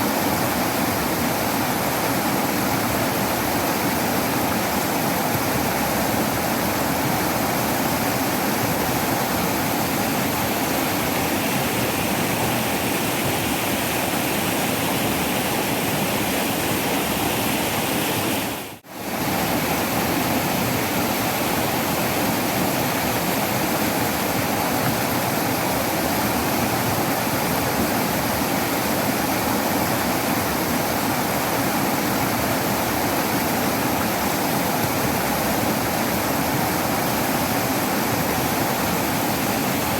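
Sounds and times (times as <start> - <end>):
waterfall roar: 0.0 - 39.9.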